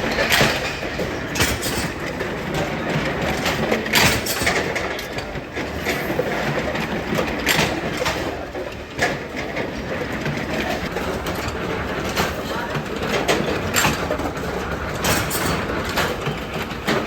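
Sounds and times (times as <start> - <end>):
factory machinery clattering: 0.0 - 17.0.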